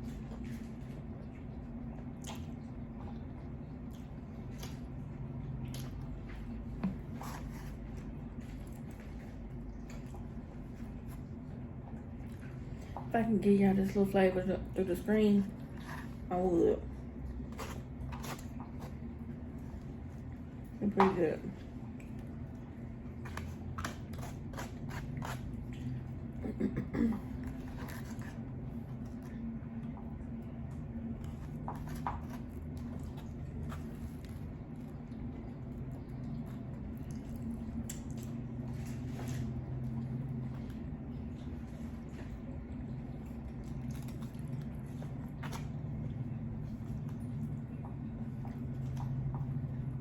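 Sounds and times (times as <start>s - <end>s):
wet chewing of noodles: 0.0s - 13.1s, 15.5s - 20.8s, 21.6s - 50.0s
low hum: 0.0s - 50.0s.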